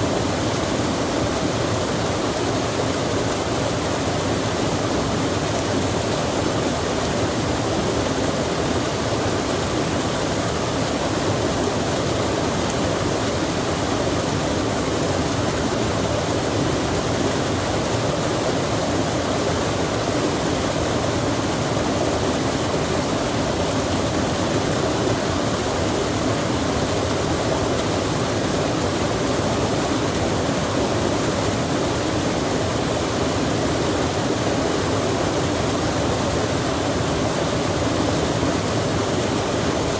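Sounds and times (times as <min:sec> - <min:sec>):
rushing of flowing water: 0:00.0 - 0:39.9.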